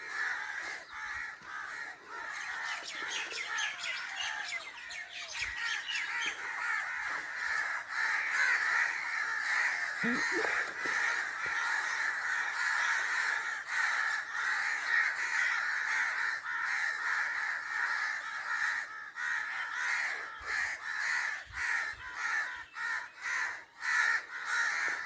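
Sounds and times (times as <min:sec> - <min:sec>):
crows cawing: 0:00.0 - 0:25.0.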